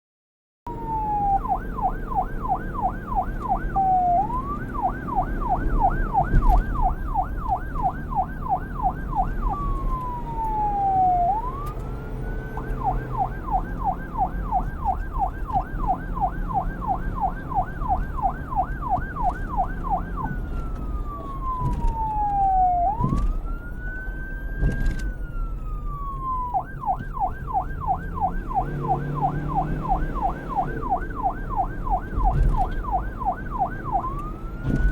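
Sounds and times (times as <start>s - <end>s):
police siren yelp and wail: 0.7s - 34.9s.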